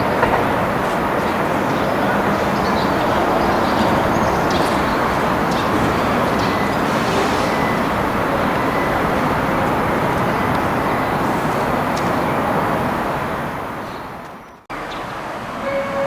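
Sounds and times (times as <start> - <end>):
electric train running: 0.0 - 14.4.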